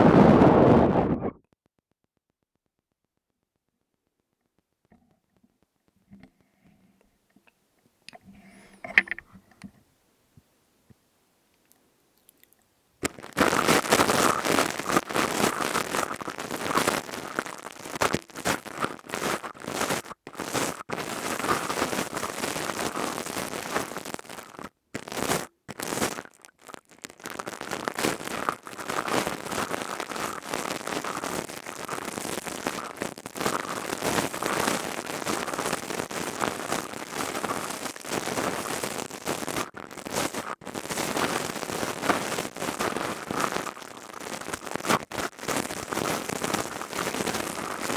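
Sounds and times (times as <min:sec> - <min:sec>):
crackling and scratching on microphone: 0:00.0 - 0:47.9.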